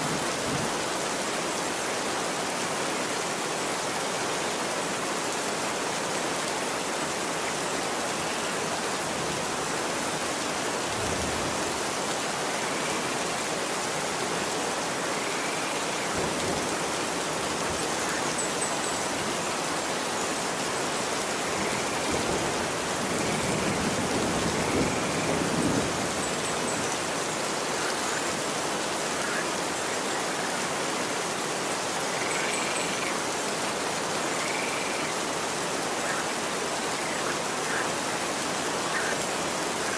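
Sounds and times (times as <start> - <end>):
rain falling on street: 0.0 - 39.9.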